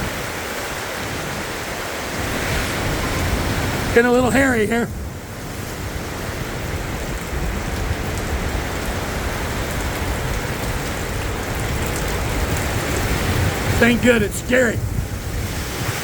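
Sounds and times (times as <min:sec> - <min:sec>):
heavy rain: 0:00.0 - 0:16.0
wind rumble on microphone: 0:00.0 - 0:16.0.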